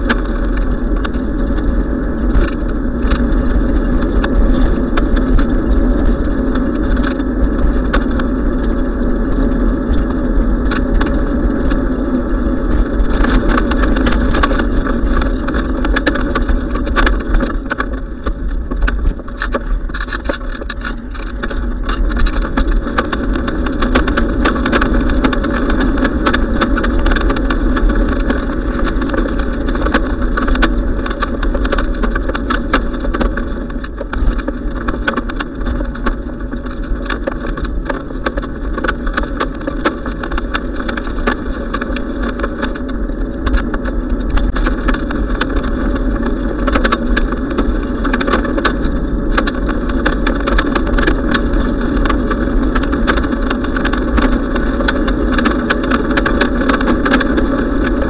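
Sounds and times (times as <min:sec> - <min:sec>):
bike rattling clicks: 0:00.0 - 0:58.0
road rumble: 0:00.0 - 0:58.0
wind buffeting microphone: 0:00.0 - 0:58.0.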